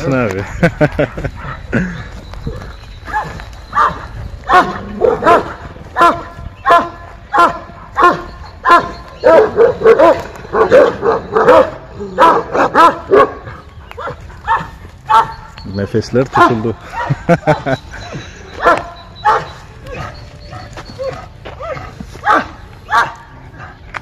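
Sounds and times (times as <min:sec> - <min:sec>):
large dog barking: 0:03.1 - 0:15.6, 0:16.2 - 0:23.8.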